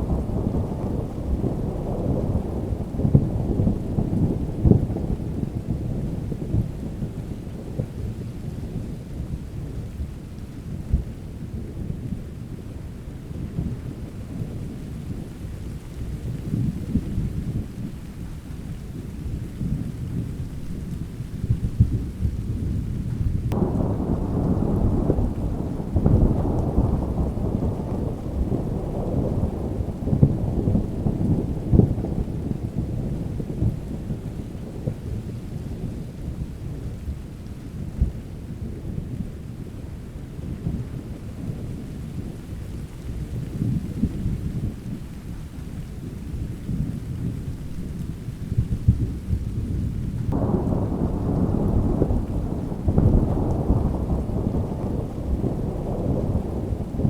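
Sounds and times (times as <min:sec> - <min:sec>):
rolling thunder: 0:00.0 - 0:57.0
steady rain: 0:00.0 - 0:57.0.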